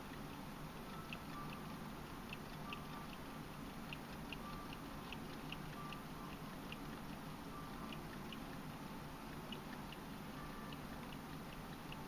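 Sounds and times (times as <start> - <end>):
wind-up clock ticking: 0.0 - 12.0.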